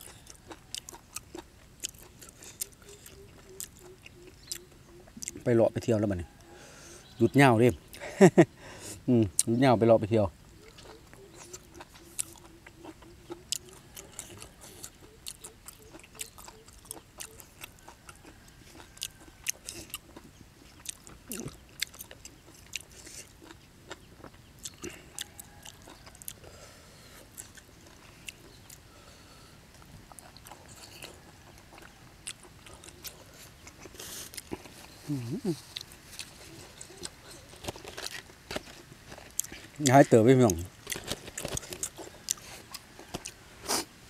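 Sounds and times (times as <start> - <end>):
man chewing and smacking: 0.0 - 7.2, 10.5 - 28.9, 29.6 - 43.9.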